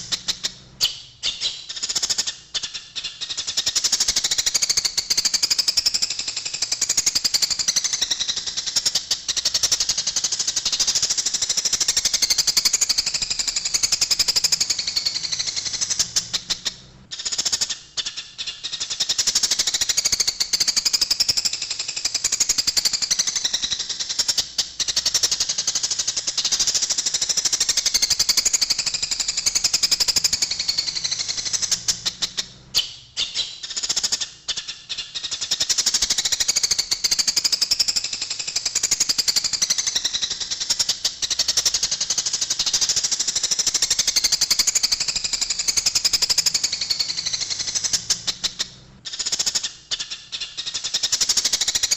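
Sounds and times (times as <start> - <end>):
sparrows chattering: 0.0 - 6.0, 6.6 - 51.9.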